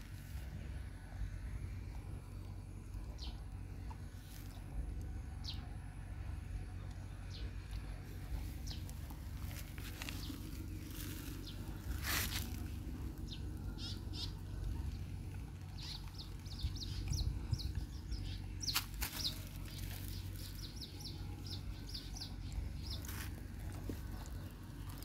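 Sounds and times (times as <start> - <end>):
low steady rumble: 0.0 - 25.0
small birds chirping: 0.3 - 25.0.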